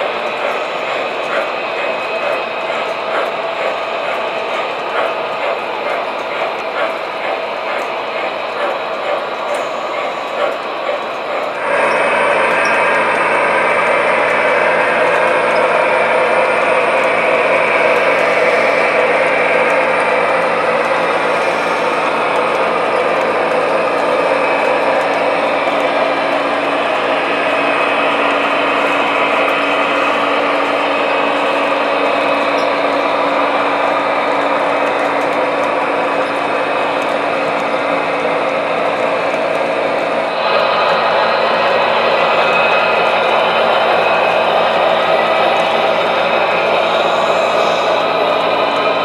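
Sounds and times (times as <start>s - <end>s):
model train motors humming: 0.0s - 49.0s.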